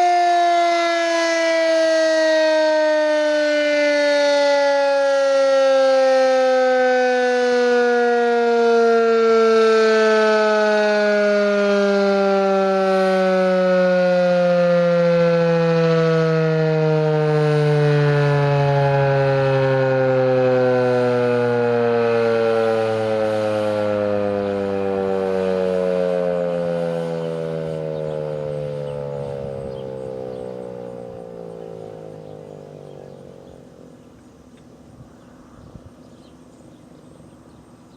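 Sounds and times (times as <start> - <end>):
warning siren winding down: 0.0 - 35.0.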